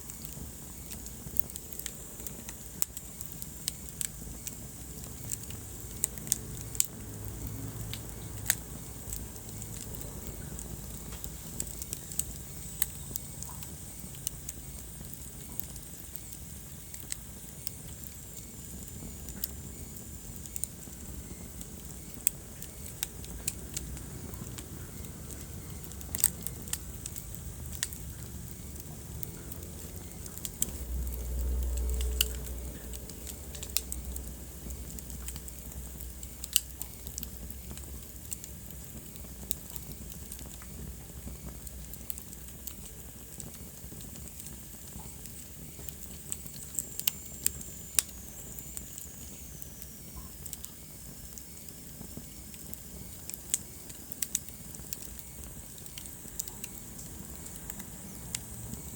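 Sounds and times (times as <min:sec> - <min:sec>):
fire pops and snaps: 0:00.0 - 0:58.9
low rumble of burning: 0:00.0 - 0:58.9.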